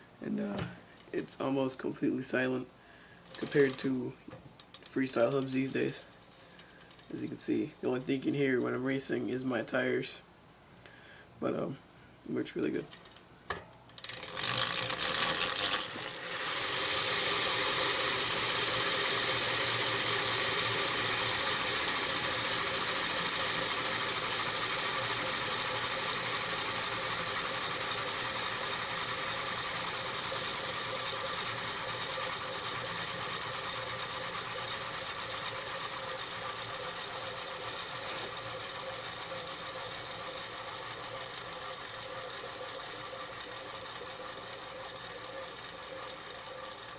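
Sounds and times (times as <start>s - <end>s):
bike freewheel whirring: 3.0s - 7.4s, 12.9s - 46.9s.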